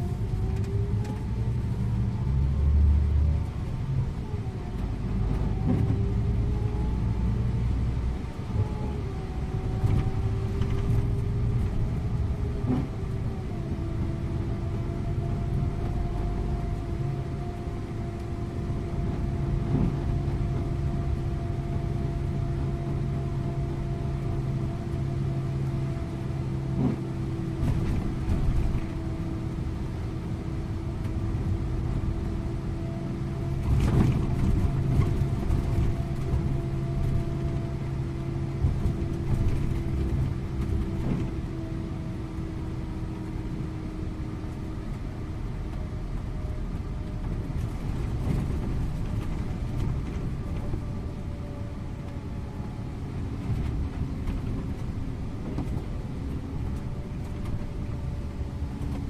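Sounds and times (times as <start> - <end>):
coach engine droning: 0.0 - 59.0
road rumble: 0.0 - 59.0.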